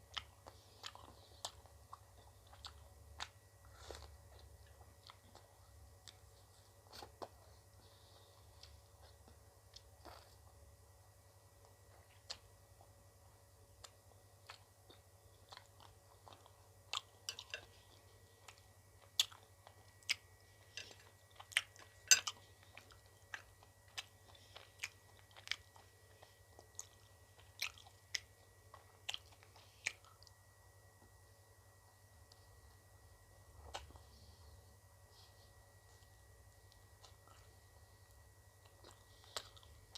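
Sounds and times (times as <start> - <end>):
ice cream crunching and chewing: 0.0 - 10.6, 11.6 - 30.4, 35.2 - 39.9.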